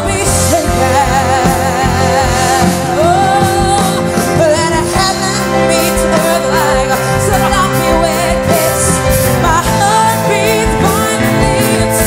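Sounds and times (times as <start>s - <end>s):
bass: 0.0s - 12.0s
keyboard chords: 0.0s - 12.0s
woman singing with vibrato: 0.0s - 12.0s.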